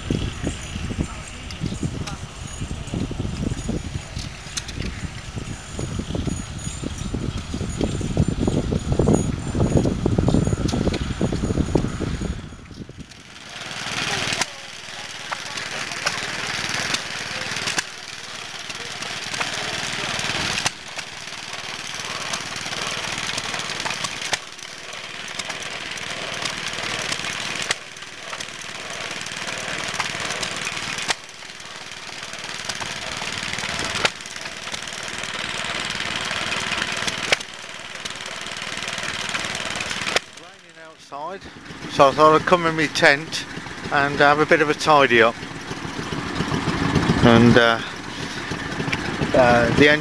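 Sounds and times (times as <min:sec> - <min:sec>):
small stationary engines running: 0:00.0 - 0:50.0.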